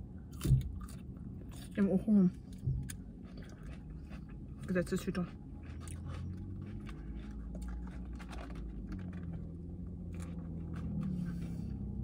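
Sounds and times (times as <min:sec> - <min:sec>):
steady low hum: 0:00.0 - 0:12.0
person chewing: 0:00.3 - 0:01.8, 0:02.4 - 0:11.6.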